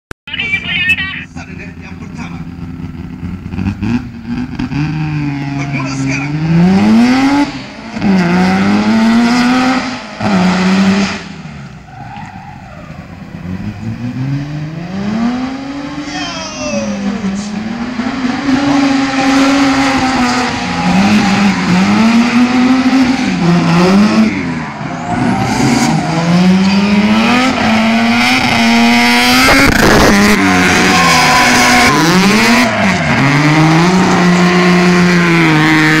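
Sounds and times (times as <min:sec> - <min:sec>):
race car engine revving: 0:01.3 - 0:36.0.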